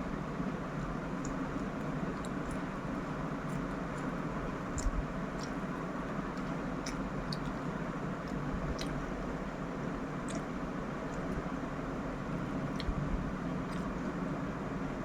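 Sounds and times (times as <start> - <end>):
person chewing food: 1.2 - 14.4.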